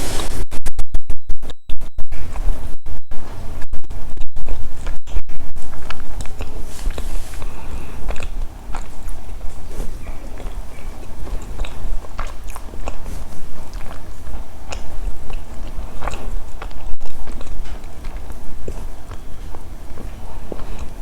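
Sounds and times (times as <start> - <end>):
steady low hum: 0.0 - 21.0
crisp chewing clicks: 4.1 - 21.0.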